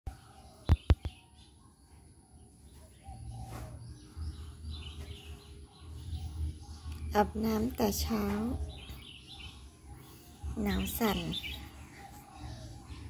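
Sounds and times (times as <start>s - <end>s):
faint birds chirping: 0.1s - 13.0s.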